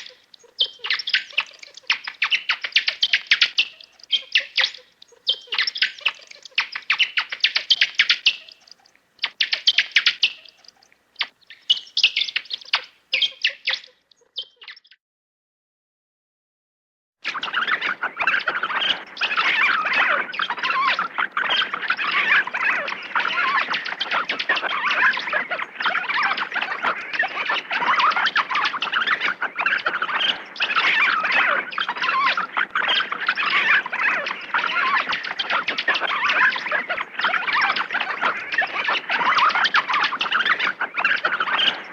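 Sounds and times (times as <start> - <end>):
birds chirping: 0.0 - 15.0, 17.3 - 41.9.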